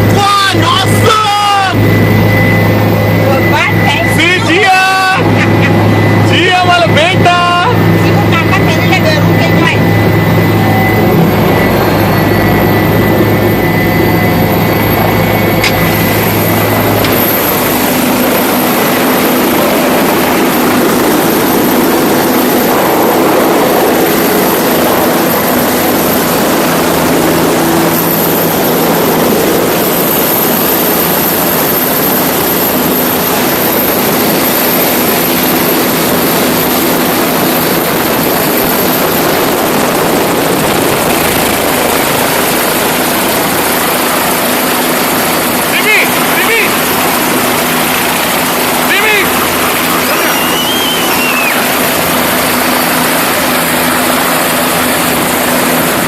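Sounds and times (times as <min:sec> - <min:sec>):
helicopter engine and rotor noise: 0:00.0 - 0:56.0.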